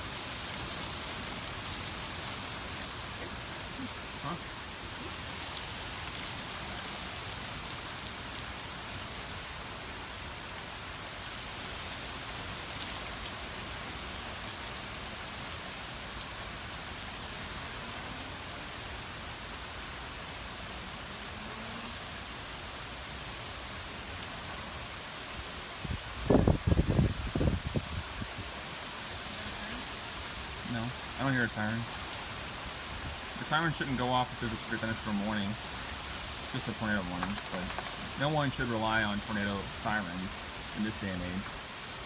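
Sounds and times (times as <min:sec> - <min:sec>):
rain pattering on surfaces: 0:00.0 - 0:42.0.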